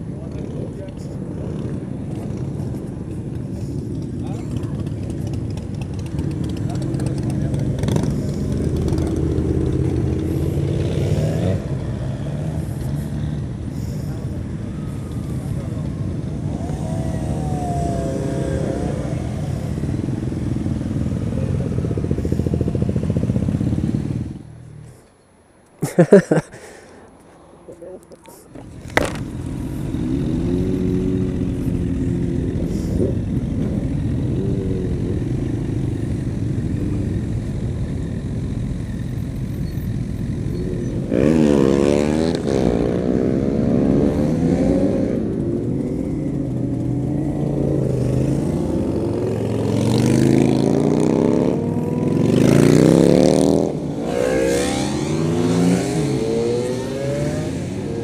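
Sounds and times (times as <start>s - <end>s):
motorcycles riding off: 0.0s - 25.0s, 28.3s - 58.0s
motorcycle engine idling and revving: 0.0s - 26.4s, 28.5s - 58.0s.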